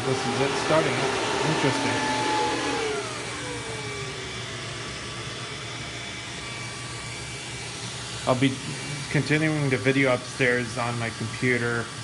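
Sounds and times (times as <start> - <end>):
cooling fans whining: 0.0 - 12.0.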